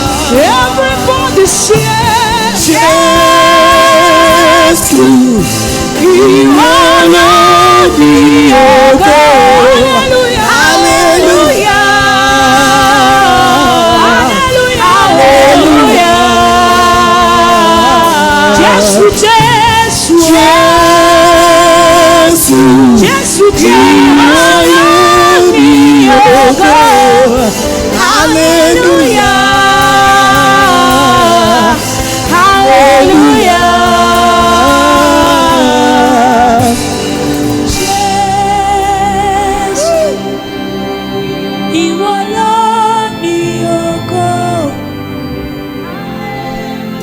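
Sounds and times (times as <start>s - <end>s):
gospel band accompaniment: 0.0s - 47.0s
person singing with vibrato: 0.0s - 47.0s.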